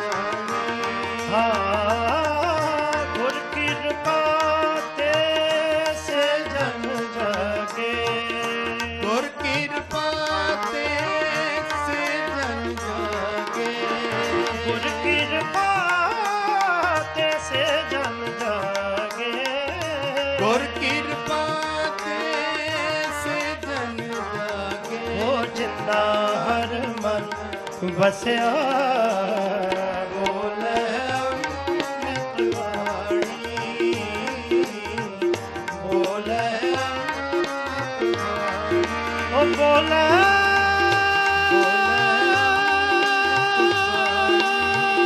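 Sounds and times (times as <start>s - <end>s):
harmoniums playing melody: 0.0s - 45.0s
person singing: 0.0s - 45.0s
tabla beat: 0.0s - 45.0s.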